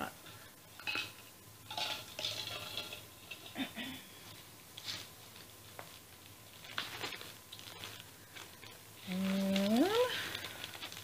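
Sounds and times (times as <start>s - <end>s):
rustling of handled objects: 0.2s - 11.0s.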